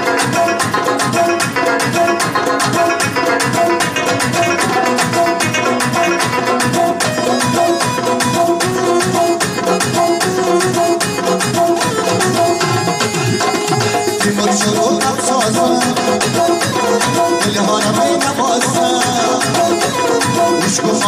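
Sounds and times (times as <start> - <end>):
electronic keyboard melody: 0.0 - 21.0
fast tabla rhythm: 0.0 - 21.0.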